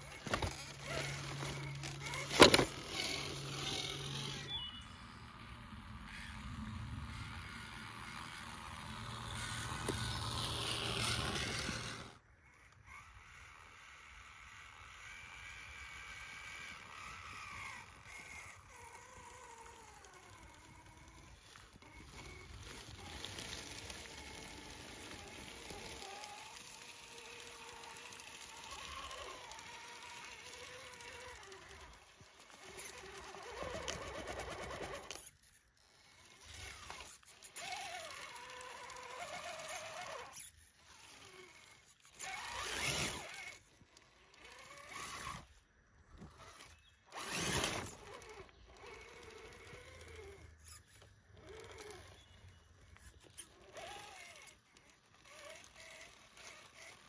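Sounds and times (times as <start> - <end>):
toy car motor whining: 0.0 - 57.0.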